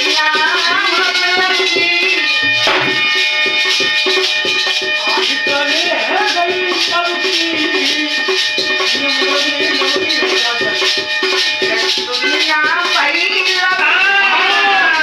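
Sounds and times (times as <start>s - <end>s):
dholak drum strokes: 0.0s - 15.0s.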